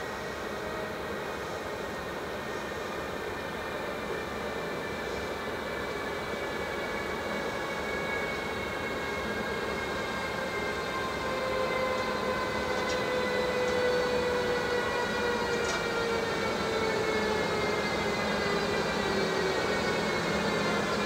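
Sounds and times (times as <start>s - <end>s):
electric locomotive whine: 0.0s - 21.0s
train rumble: 0.0s - 21.0s.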